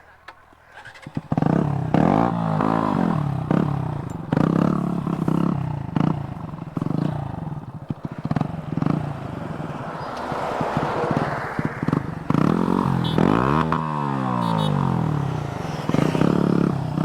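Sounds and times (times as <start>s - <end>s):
motorcycle engine revving: 0.7s - 17.0s.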